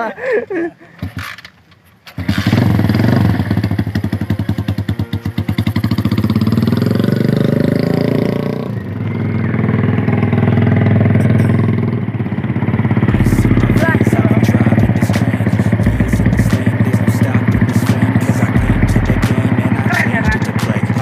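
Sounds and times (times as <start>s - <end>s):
motorcycle fast pulsing exhaust: 2.1s - 21.0s.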